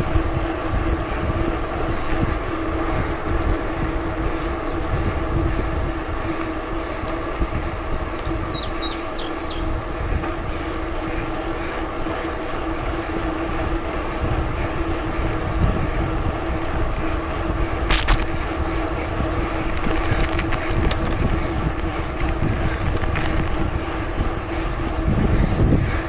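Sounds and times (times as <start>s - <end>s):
bicycle tyre noise: 0.0s - 26.0s
steady low hum: 0.0s - 26.0s
wind rumbling on microphone: 0.0s - 26.0s.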